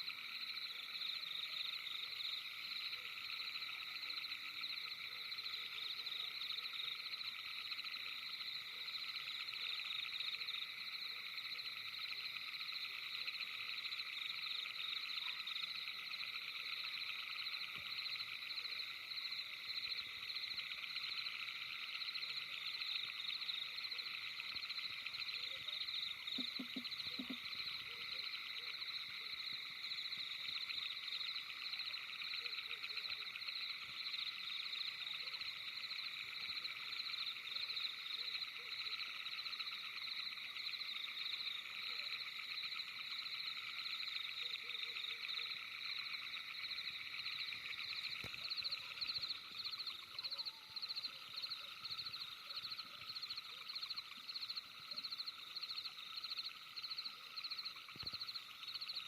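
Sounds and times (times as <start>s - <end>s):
night animals trilling chorus: 0.0s - 59.0s.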